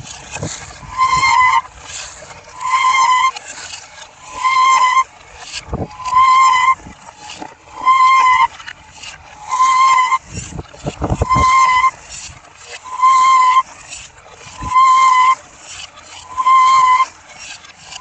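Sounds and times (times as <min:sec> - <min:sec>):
low rumbling clatter: 0:00.0 - 0:18.0.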